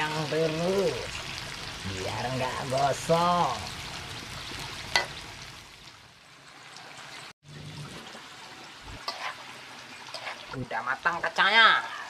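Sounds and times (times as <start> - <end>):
beans sizzling in a wok: 0.0 - 12.0.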